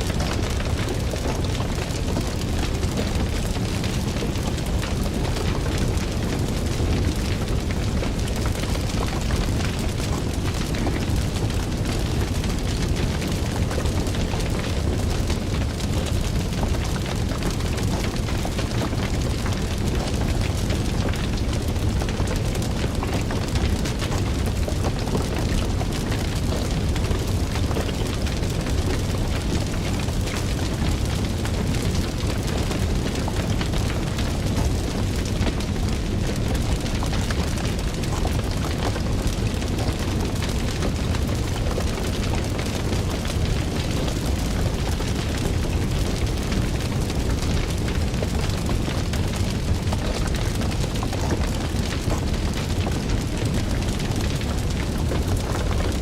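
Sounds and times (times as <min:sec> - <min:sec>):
fire crackling: 0:00.0 - 0:56.0.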